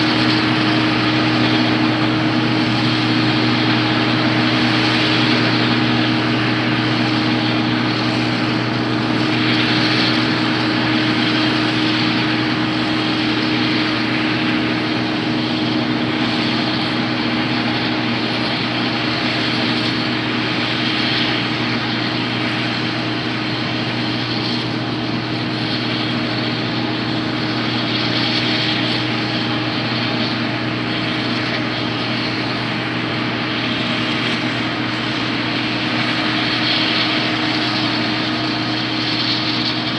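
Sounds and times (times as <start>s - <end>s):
combine harvester engine drone: 0.0s - 39.9s
threshing machinery hiss: 0.0s - 39.9s.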